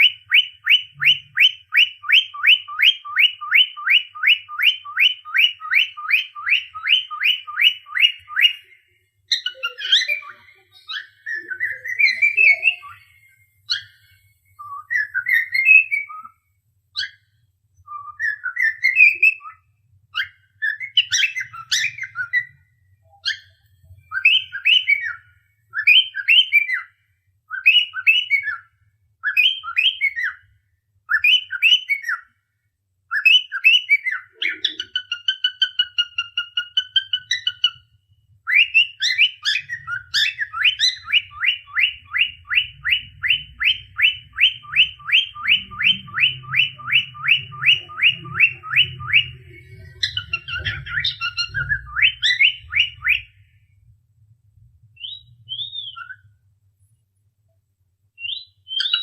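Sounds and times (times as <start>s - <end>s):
cockatiel whistling: 0.0s - 16.3s, 16.9s - 17.2s, 17.8s - 26.9s, 27.5s - 30.5s, 31.1s - 32.3s, 33.1s - 53.5s, 55.0s - 56.3s, 58.2s - 59.0s.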